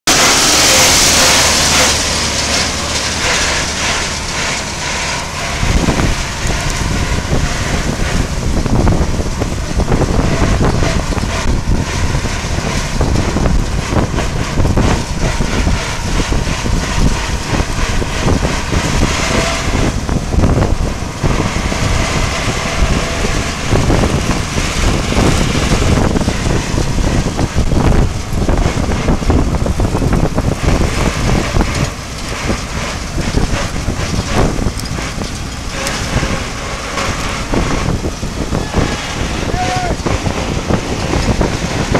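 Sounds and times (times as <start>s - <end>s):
tractor engine running: 0.0s - 41.9s
wind on microphone: 0.1s - 41.9s.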